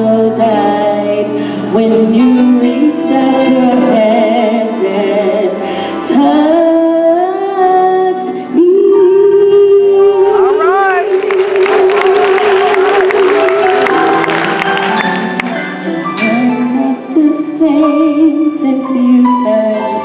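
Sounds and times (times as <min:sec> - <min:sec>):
woman singing gospel: 0:00.0 - 0:13.9, 0:16.2 - 0:20.0.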